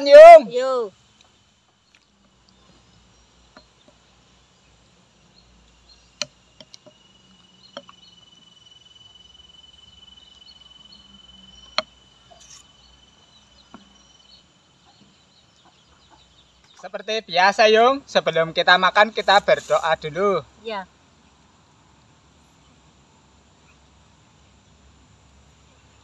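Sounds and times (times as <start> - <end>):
high insect trill: 0.0 - 26.0.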